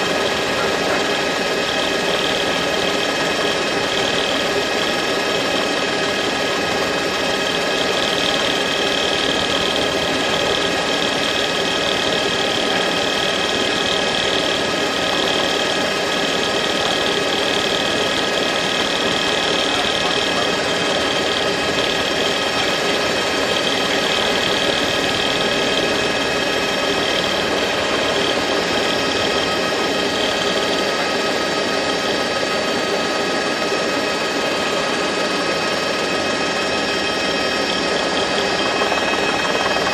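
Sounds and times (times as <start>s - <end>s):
helicopter engine and rotor: 0.0s - 39.9s
high whine: 0.0s - 39.9s.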